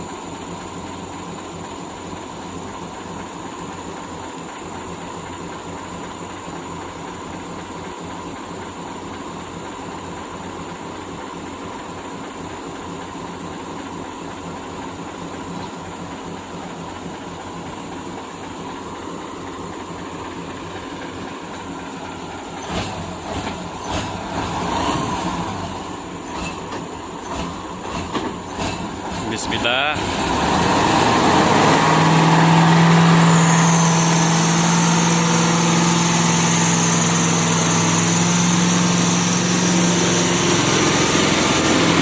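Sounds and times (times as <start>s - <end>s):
diesel engine idling: 0.0s - 42.0s.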